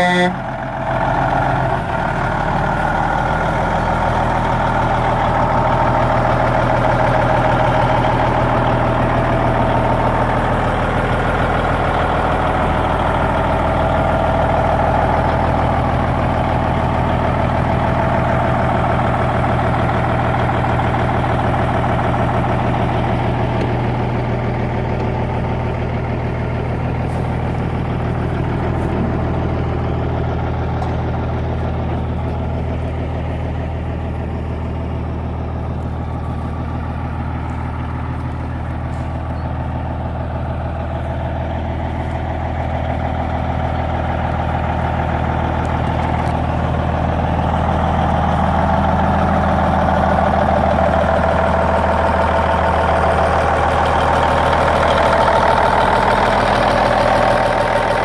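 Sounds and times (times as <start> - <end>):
truck diesel engine idling: 0.0 - 58.0.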